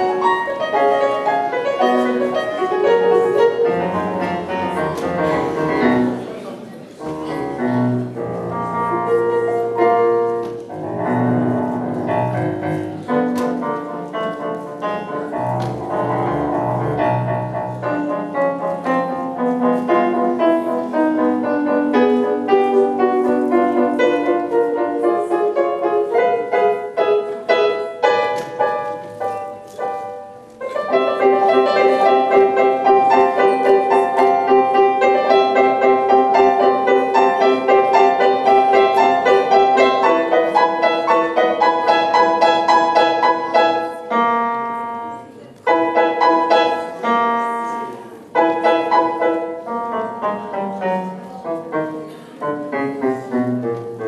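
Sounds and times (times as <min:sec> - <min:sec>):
digital keyboard piano: 0:00.0 - 0:54.0.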